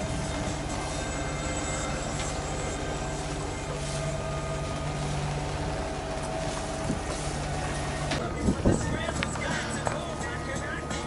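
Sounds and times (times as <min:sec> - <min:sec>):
water wash: 0:00.0 - 0:10.9
boat engine humming: 0:00.0 - 0:11.0.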